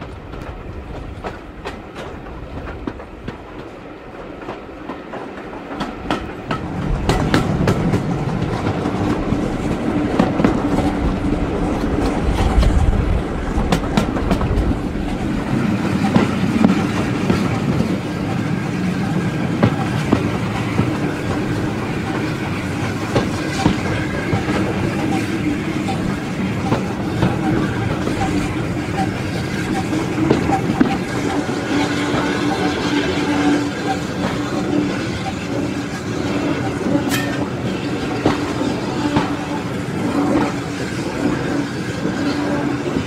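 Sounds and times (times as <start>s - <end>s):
train rolling rumble: 0.0s - 43.0s
train wheels clicking over rail joints: 0.0s - 43.0s.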